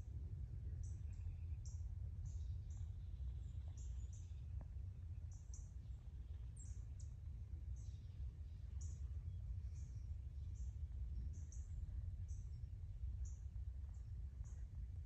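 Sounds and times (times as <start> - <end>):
low steady rumble: 0.0 - 15.0
small birds chirping: 0.7 - 15.0.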